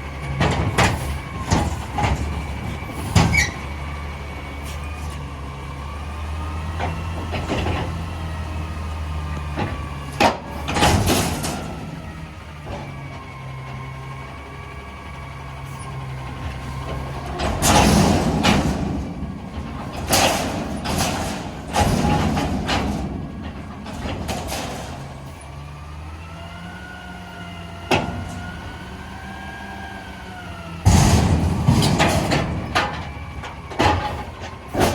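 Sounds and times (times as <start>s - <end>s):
garbage truck engine running: 0.0s - 34.9s
refuse clattering into hopper: 0.1s - 29.4s, 30.6s - 34.9s.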